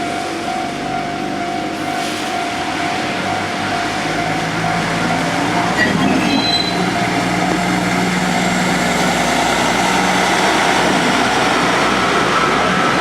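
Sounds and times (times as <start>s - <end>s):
diesel train passing slowly: 0.0s - 13.0s.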